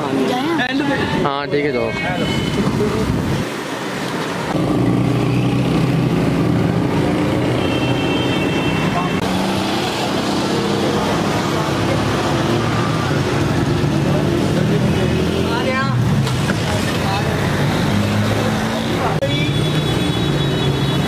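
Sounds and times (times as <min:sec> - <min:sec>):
vehicle engines running: 0:02.6 - 0:21.0.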